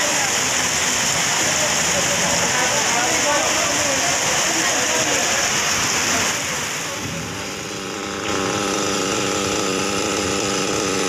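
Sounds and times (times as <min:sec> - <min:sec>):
heavy rain hissing: 0:00.0 - 0:11.0
small model engine idling: 0:00.0 - 0:11.0.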